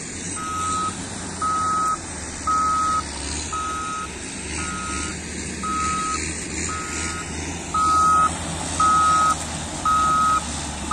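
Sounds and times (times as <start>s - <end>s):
engine humming: 0.0s - 10.9s
reversing alarm beeping: 0.4s - 10.9s.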